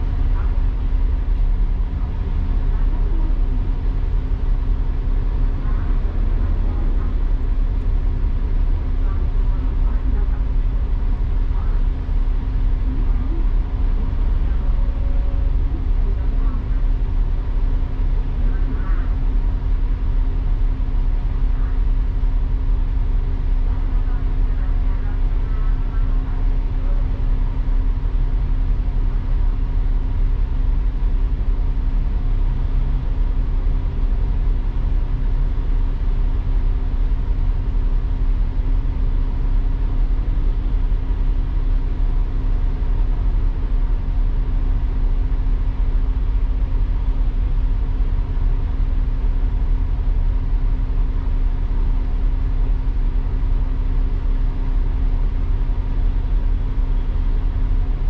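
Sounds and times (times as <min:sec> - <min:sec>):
bus engine and road rumble: 0:00.0 - 0:58.0
constant hum: 0:00.0 - 0:58.0.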